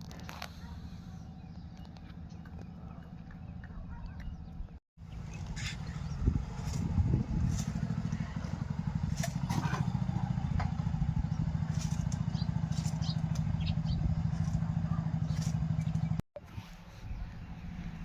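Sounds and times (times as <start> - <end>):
engine idling: 0.0 - 16.2.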